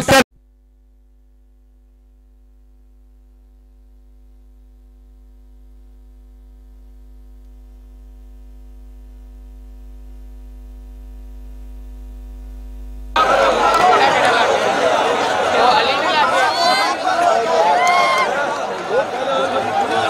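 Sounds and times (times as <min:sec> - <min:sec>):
electrical mains hum: 0:00.0 - 0:16.7.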